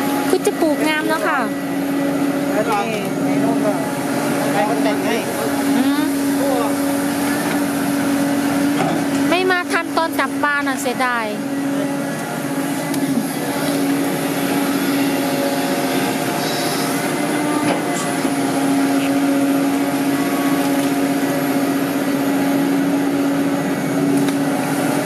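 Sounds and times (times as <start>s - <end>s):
excavator engine and hydraulics humming: 0.0s - 25.0s.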